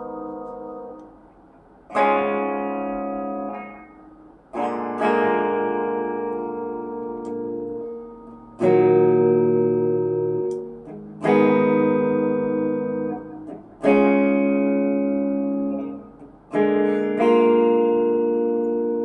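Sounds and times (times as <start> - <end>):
electric guitar chords strummed: 0.0 - 19.0.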